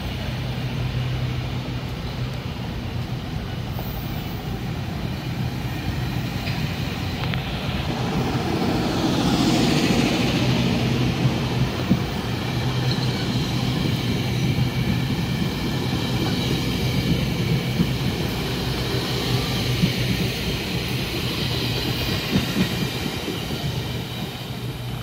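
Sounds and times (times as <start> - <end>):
train running past: 0.0 - 25.0
train wheel clatter: 2.0 - 25.0.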